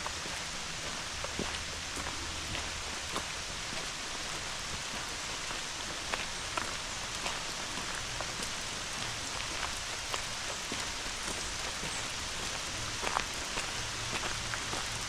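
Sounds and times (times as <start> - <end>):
hard rain falling: 0.0 - 15.0.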